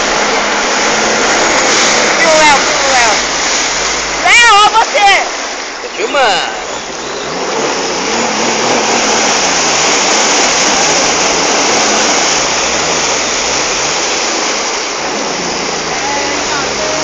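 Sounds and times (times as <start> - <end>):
jet ski engine: 0.0 - 17.0
rush of water and wind: 0.0 - 17.0.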